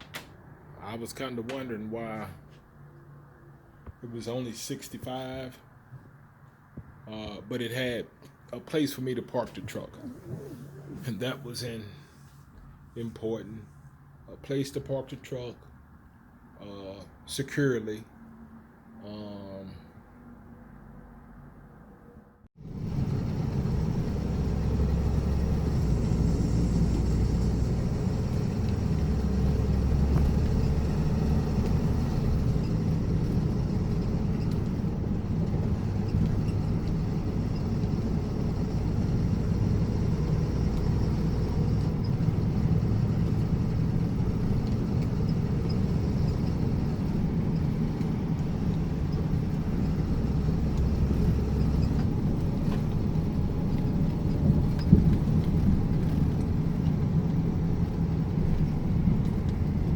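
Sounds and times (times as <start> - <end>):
truck engine rumble: 0.0 - 5.7, 7.1 - 13.7, 22.6 - 59.9
road noise: 0.0 - 59.9.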